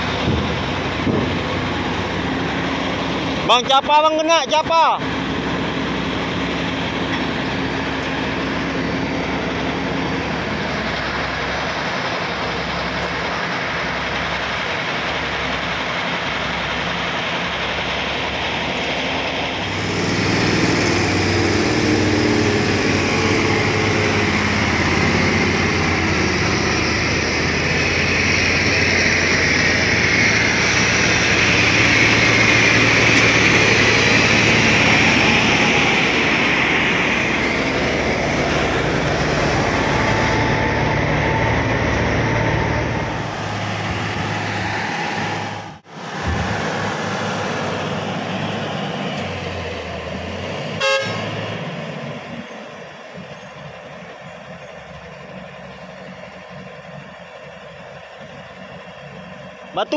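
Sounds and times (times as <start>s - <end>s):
heavy diesel engines under load: 0.0s - 59.9s.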